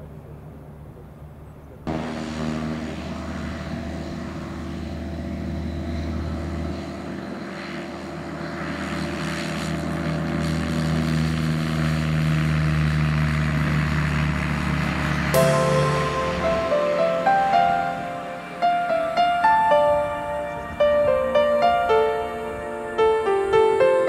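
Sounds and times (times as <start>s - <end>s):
propeller aircraft engine drone: 0.0s - 24.0s.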